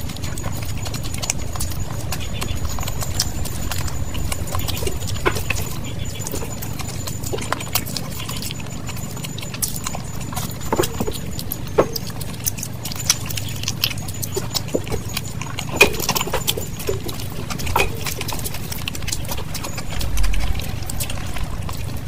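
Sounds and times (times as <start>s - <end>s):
person chewing and lip-smacking: 0.0s - 22.0s.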